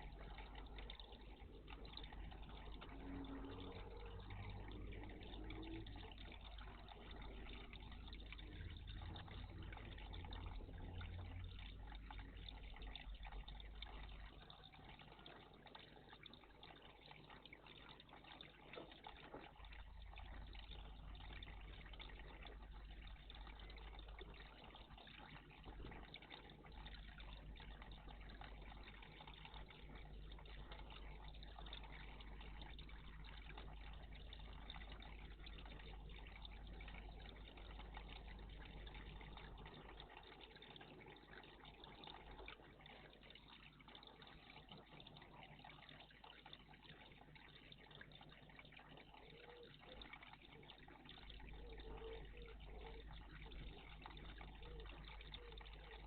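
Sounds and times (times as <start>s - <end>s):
low hum: 0.0s - 46.2s
water trickling in bird bath: 0.0s - 56.0s.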